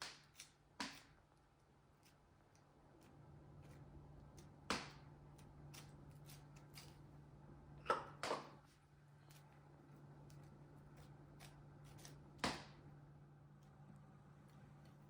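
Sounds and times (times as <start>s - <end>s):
low steady hum: 1.4s - 15.0s.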